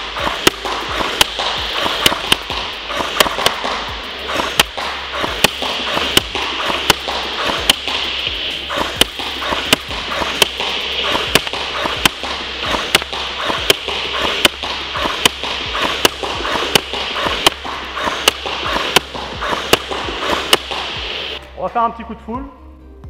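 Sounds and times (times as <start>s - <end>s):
airsoft gun shots cracking: 0.0s - 21.4s.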